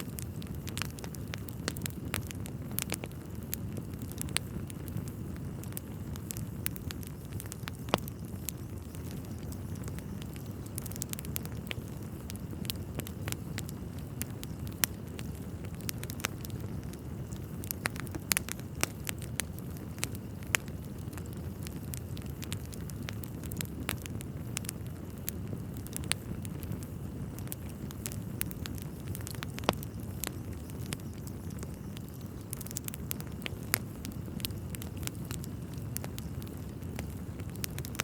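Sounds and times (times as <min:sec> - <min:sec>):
logs crackling and popping: 0:00.0 - 0:38.0
wood fire rumbling: 0:00.0 - 0:38.0.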